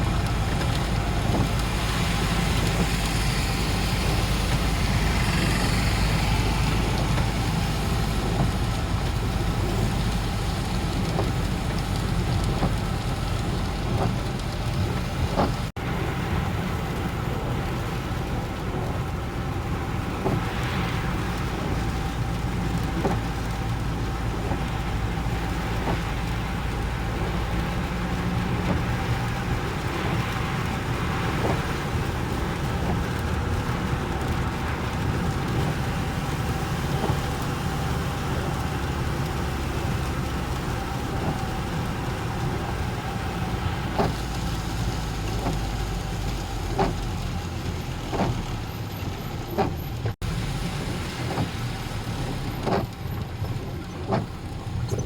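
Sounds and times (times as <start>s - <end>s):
traffic engines rumbling: 0.0s - 55.0s.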